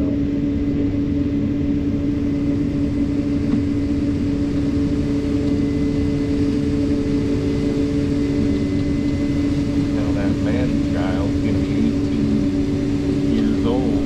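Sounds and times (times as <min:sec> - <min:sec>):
combine harvester low drone: 0:00.0 - 0:14.0
steady hum: 0:00.0 - 0:14.0.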